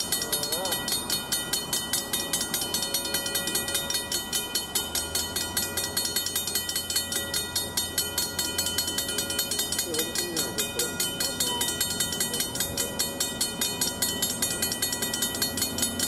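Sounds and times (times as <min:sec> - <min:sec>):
crossing bell ringing: 0:00.0 - 0:16.0.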